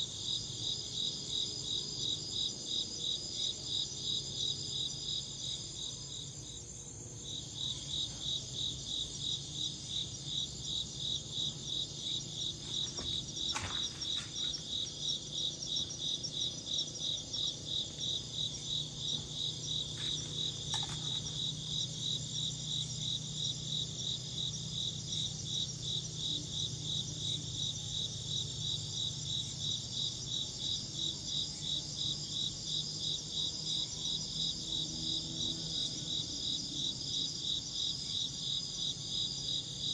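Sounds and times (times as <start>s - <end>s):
crickets chirping: 0.0s - 39.9s
high-pitched insect trill: 0.0s - 39.9s.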